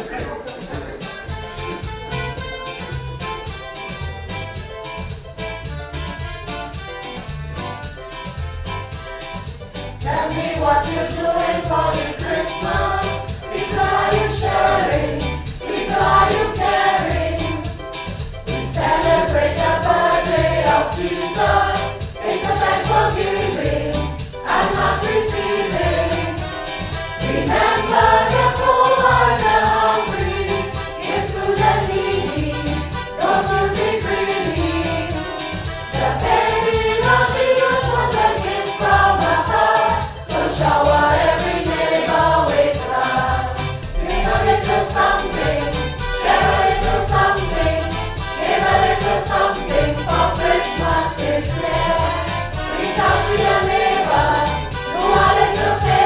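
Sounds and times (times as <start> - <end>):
keyboard accompaniment: 0.0 - 56.0
steady beat: 0.0 - 56.0
choir singing gospel song: 8.9 - 56.0.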